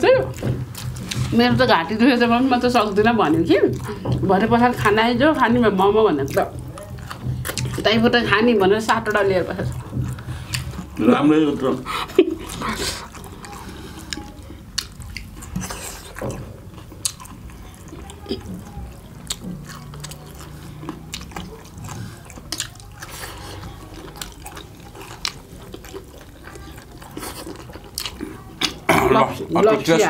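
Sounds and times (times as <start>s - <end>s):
wet chewing and lip smacks: 0.2s - 1.4s, 2.2s - 5.0s, 6.2s - 28.9s.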